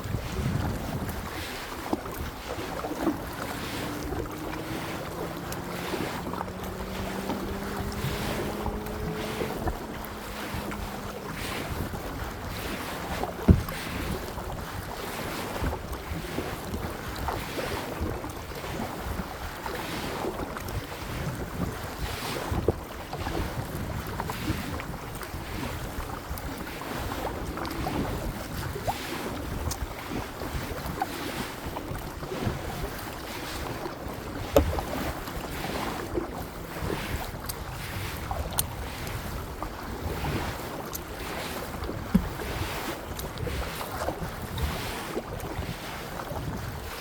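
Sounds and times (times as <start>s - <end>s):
kayak paddling: 0.0s - 47.0s
water splashing against hull: 0.0s - 47.0s
wind buffeting microphone: 0.0s - 47.0s.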